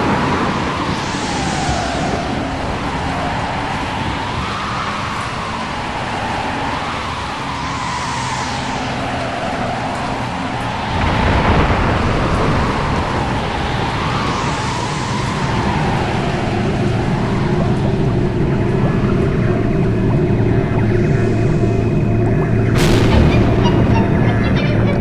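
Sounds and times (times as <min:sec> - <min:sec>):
heavy rain: 0:00.0 - 0:25.0
howling wind: 0:00.0 - 0:25.0
thunder rumble: 0:00.0 - 0:25.0.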